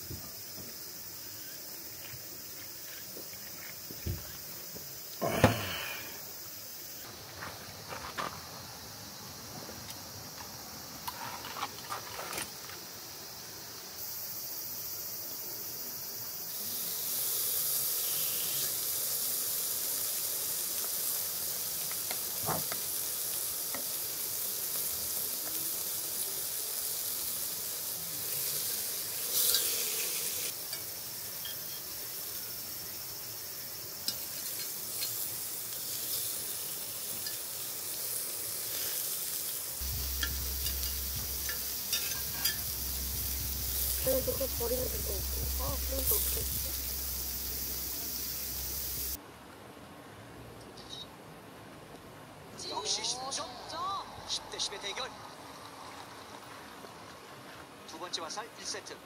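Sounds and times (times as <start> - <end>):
meat sizzling on a grill: 0.0 - 7.2, 10.0 - 49.2, 52.6 - 57.2.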